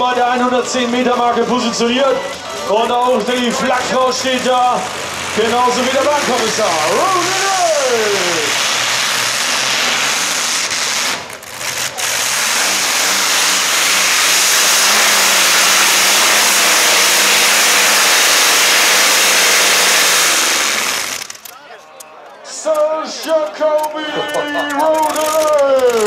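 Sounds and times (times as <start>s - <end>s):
tractor engine at high throttle: 0.0s - 21.5s, 23.8s - 26.0s.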